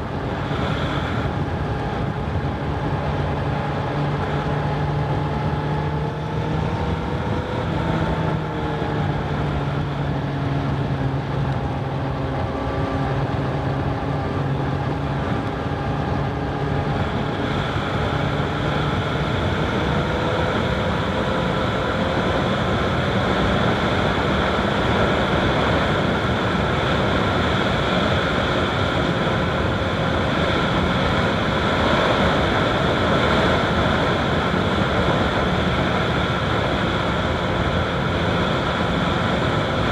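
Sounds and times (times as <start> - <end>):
motorcycle engine running: 0.0 - 39.9
rushing wind and road noise: 0.0 - 39.9.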